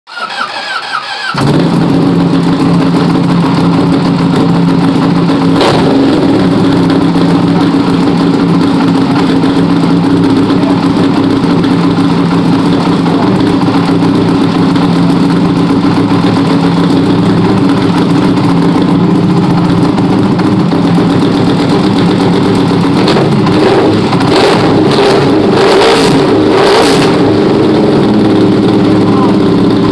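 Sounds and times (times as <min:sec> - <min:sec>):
motorcycle engine idling and revving: 0:00.1 - 0:29.9.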